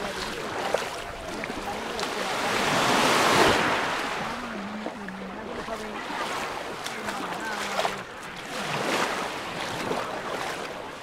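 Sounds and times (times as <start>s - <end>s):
wave washing over shingle: 0.0s - 11.0s.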